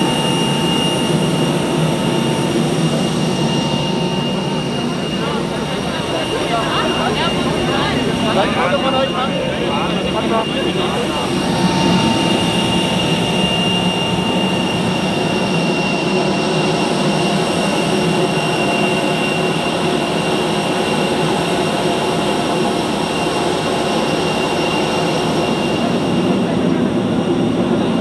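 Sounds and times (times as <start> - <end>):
aircraft turbine whine: 0.0 - 28.0.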